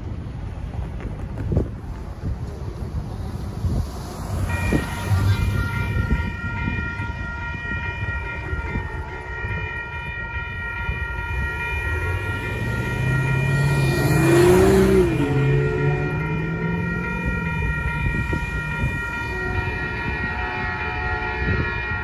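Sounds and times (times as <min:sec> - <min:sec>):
railroad crossing bells ringing: 0:02.9 - 0:22.0
diesel locomotive horn: 0:04.2 - 0:22.0.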